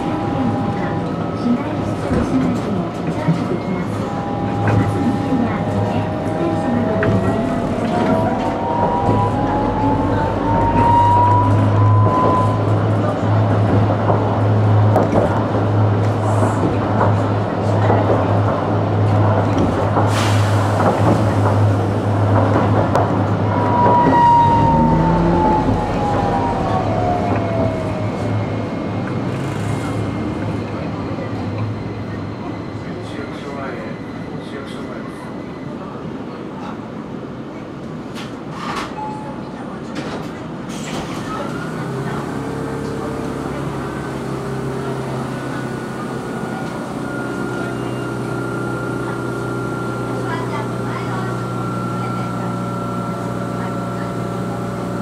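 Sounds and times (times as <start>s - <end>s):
tram rumbling: 0.0s - 55.0s.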